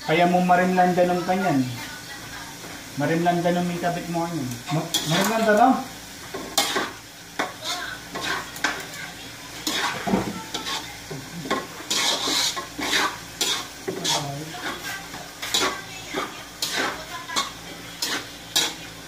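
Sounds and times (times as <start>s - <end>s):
food sizzling: 0.0s - 19.0s
utensil scraping a wok: 2.6s - 19.0s.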